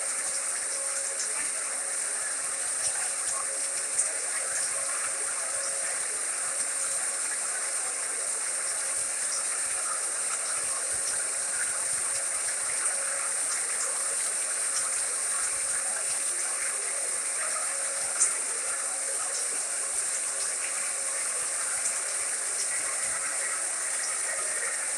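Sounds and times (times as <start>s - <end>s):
faint hum: 0.0s - 24.9s
white noise machine hiss: 0.0s - 24.9s
small ticks: 0.1s - 24.9s.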